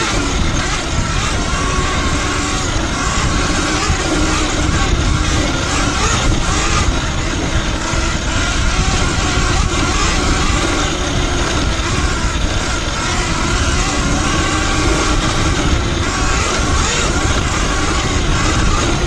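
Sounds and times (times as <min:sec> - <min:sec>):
faint drivetrain tones: 0:00.0 - 0:19.0
wind buffeting microphone: 0:00.0 - 0:19.0.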